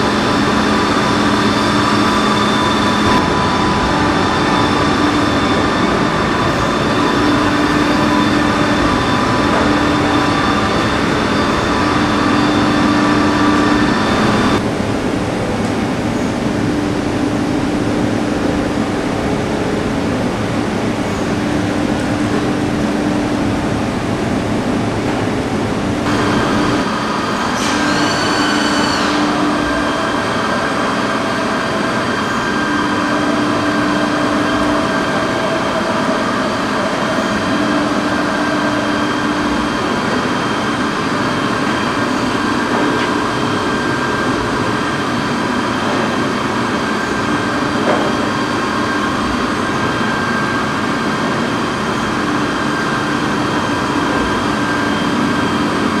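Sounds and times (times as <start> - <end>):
low machine tone: 0.0 - 56.0
milling machine humming and whining: 0.0 - 56.0.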